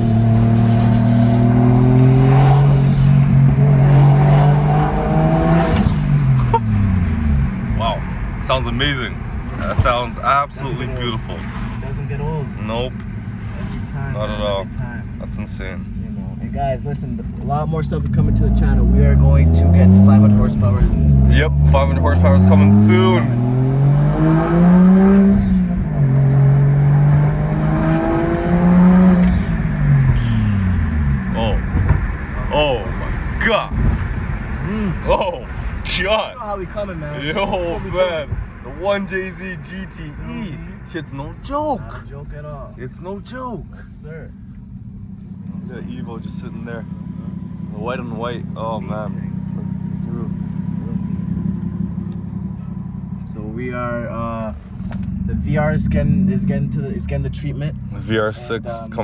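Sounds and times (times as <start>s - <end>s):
car engine accelerating hard: 0.0s - 59.0s
rush of engine noise: 0.0s - 59.0s.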